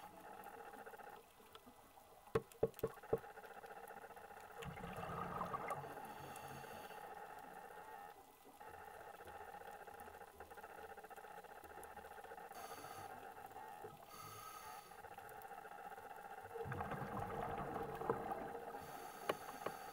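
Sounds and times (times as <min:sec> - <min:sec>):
faint crackling: 0:00.0 - 0:19.9
low underwater hum: 0:00.0 - 0:19.9.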